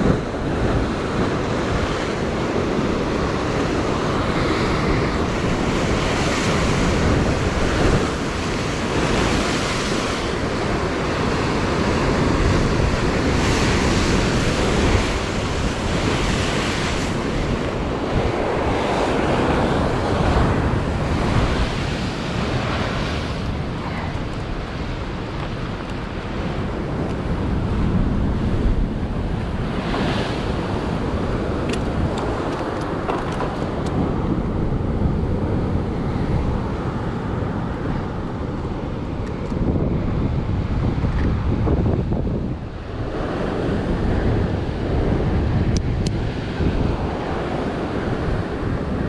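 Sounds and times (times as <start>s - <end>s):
sea surf washing on shore: 0.0s - 49.0s
wind buffeting the microphone: 0.0s - 49.0s.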